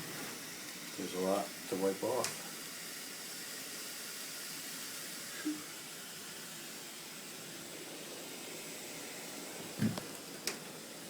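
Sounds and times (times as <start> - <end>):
snow hissing on hot engine: 0.0 - 11.0.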